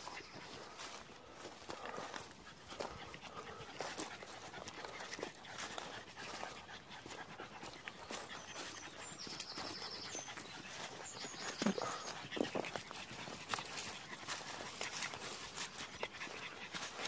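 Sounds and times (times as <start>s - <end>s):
dog panting: 0.0s - 17.0s
footsteps: 0.0s - 17.0s.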